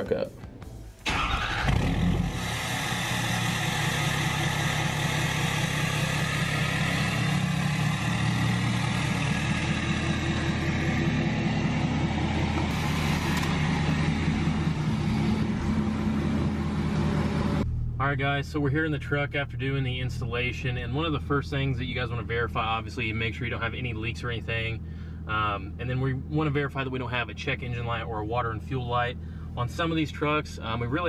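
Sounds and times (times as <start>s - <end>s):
diesel engine idling: 1.0s - 28.0s.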